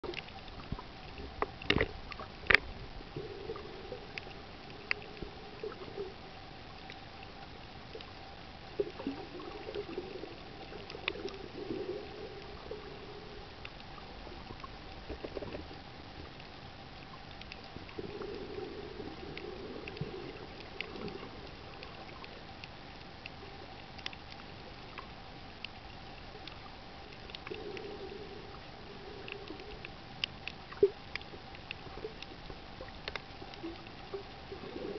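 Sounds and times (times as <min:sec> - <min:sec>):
muffled water swishes: 0:00.0 - 0:34.9
sharp underwater clicks and crackles: 0:00.0 - 0:34.9
steady hum: 0:00.0 - 0:34.9.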